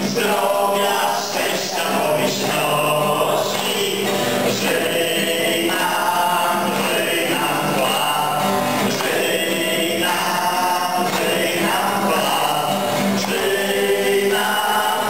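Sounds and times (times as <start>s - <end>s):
group singing in unison: 0.0s - 15.0s
hands clapping: 0.0s - 15.0s.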